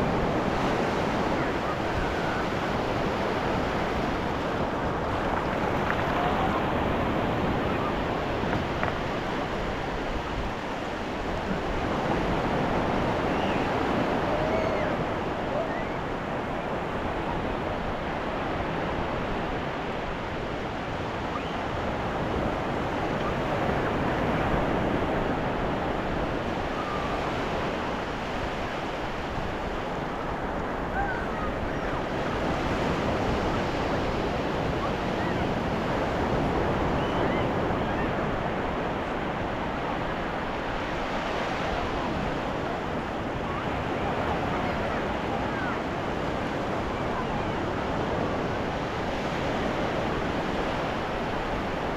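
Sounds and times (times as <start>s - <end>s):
ocean waves breaking on beach: 0.0s - 51.9s.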